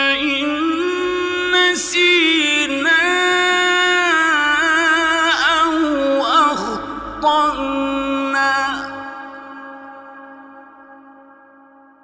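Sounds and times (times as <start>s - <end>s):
man chanting melodically: 0.0s - 11.0s.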